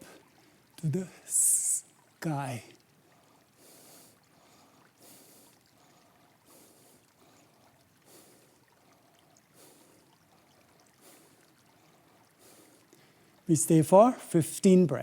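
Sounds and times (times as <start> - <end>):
faint pulsing hiss: 0.0 - 15.0.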